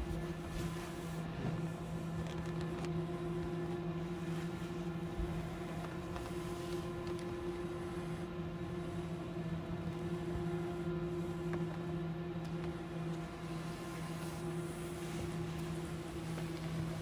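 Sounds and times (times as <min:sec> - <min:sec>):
steady low drone: 0:00.0 - 0:17.0.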